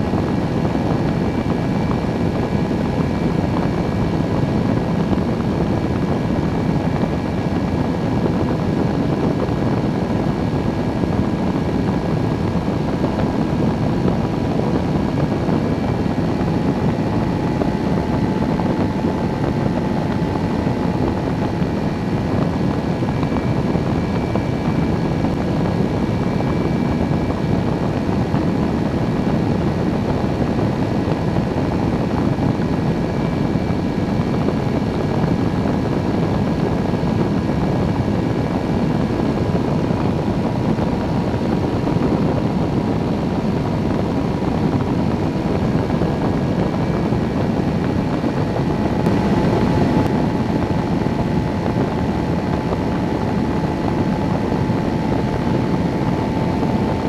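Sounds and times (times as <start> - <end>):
light aircraft engine and propeller: 0.0 - 57.0
wind rushing on microphone: 0.0 - 57.0.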